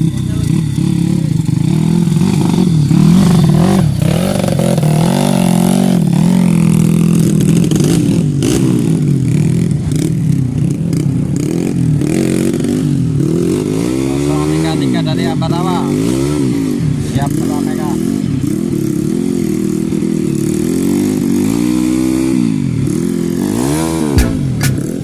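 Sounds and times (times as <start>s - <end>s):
motorcycle engines revving hard: 0.0s - 25.0s.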